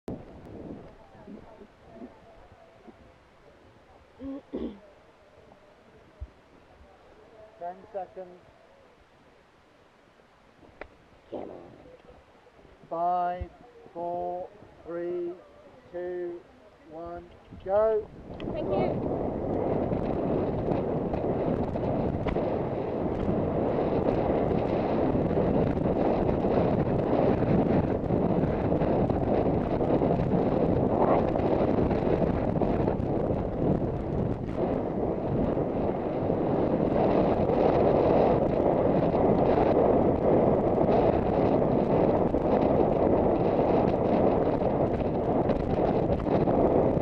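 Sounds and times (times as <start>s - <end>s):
wind noise on microphone: 0.1s - 47.0s.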